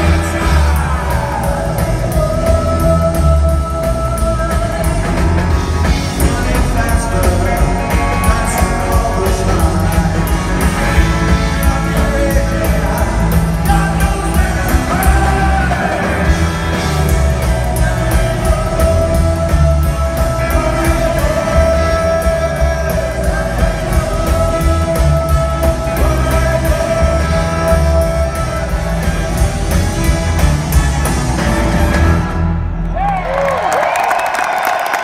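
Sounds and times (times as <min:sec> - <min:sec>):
man singing: 0:00.0 - 0:30.1
drums: 0:00.0 - 0:35.0
horn section: 0:00.0 - 0:35.0.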